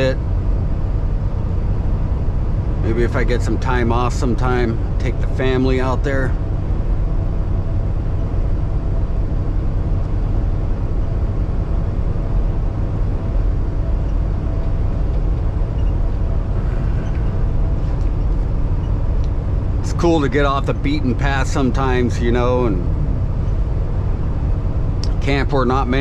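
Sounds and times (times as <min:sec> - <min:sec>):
road noise: 0:00.0 - 0:26.0
truck diesel engine droning: 0:00.0 - 0:26.0.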